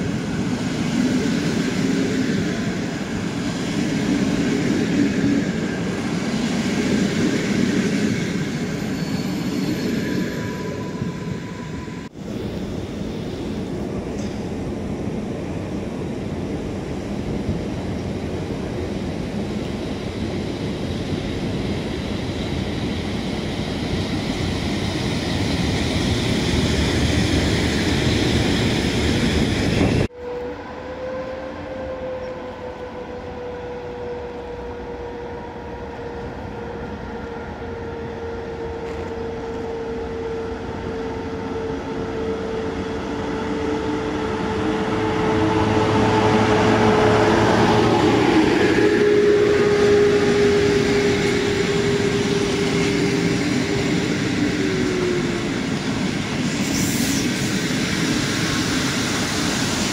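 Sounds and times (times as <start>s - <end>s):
electric locomotive rumbling: 0.0s - 59.9s
train whine: 0.0s - 59.9s.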